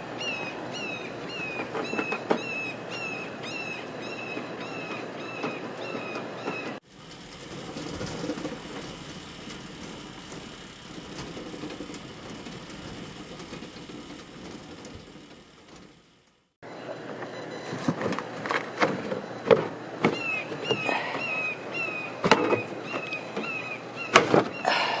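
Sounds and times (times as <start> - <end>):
air conditioner rattling: 0.0 - 16.6, 17.7 - 25.0.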